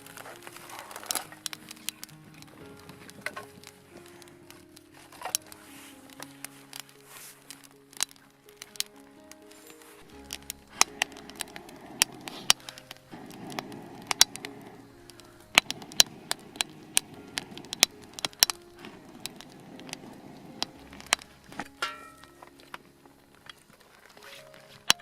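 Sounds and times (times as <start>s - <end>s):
campfire crackling and popping: 0.0s - 25.0s
soft background music: 0.0s - 25.0s.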